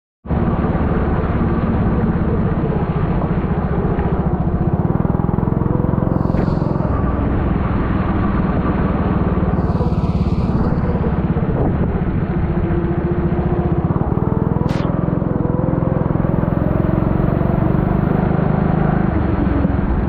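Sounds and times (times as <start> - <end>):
kart engine running: 0.3 - 20.0.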